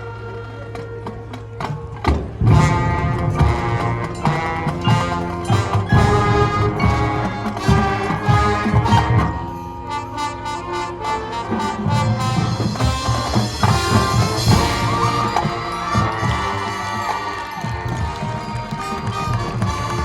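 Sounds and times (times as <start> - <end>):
marching band playing: 0.1 - 20.0
drums: 0.5 - 20.0
brass holding chords: 2.4 - 20.0.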